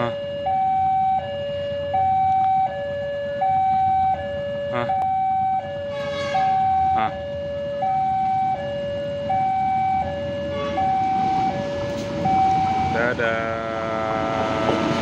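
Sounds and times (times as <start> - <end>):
two-tone warning siren: 0.0 - 15.0.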